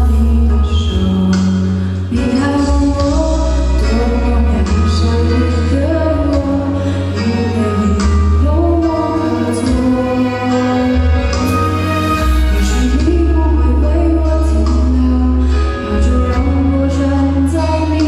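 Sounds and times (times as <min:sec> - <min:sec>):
instrumental accompaniment: 0:00.0 - 0:18.0
steady prominent bass: 0:00.0 - 0:18.0
woman singing a pop ballad: 0:00.0 - 0:18.0.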